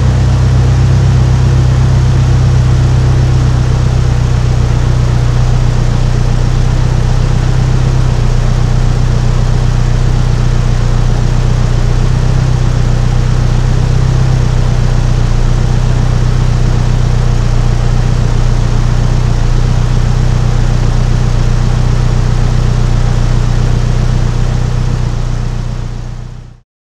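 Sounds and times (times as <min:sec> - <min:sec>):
car engine idling: 0:00.0 - 0:26.6.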